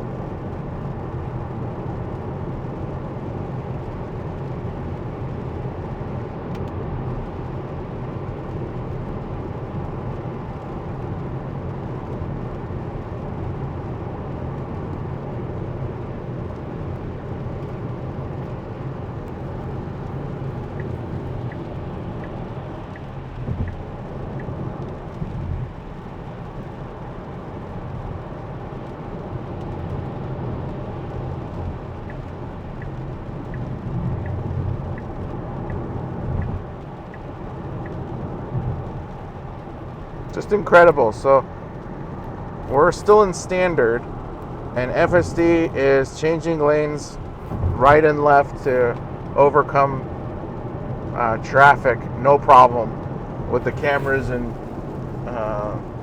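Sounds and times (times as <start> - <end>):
road and tyre noise in car: 0.0 - 56.0
turn signal ticking: 0.2 - 56.0.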